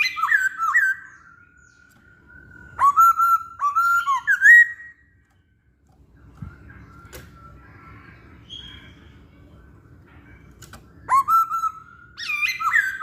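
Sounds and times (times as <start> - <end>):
bird whistled song: 0.0 - 5.5, 6.2 - 9.2, 11.0 - 13.0.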